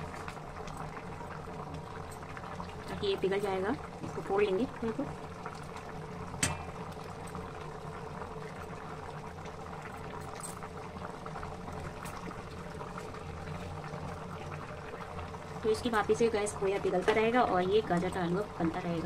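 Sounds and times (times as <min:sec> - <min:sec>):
bubbling sizzle in pan: 0:00.0 - 0:19.0.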